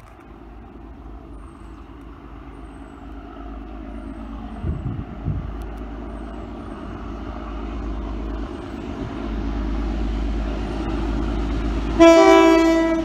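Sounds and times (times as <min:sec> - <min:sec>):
diesel train engine and rail rumble: 0:00.0 - 0:13.0.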